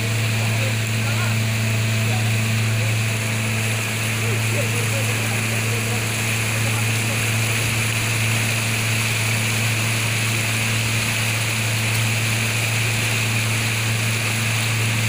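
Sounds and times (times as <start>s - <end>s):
boat motor droning: 0.0s - 15.0s
water wash: 0.0s - 15.0s.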